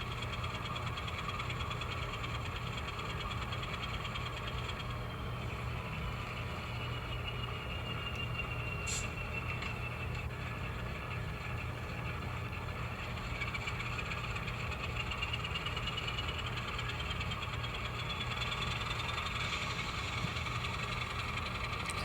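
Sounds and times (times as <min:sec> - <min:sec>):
model train low hum: 0:00.0 - 0:22.0
thin motor whine: 0:00.0 - 0:22.0.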